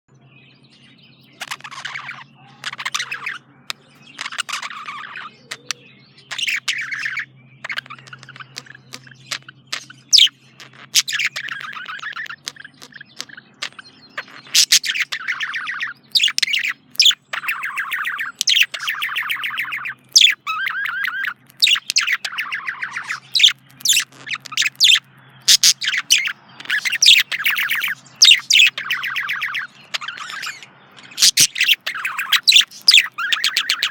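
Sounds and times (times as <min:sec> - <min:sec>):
budgerigar chattering: 0:01.3 - 0:33.9.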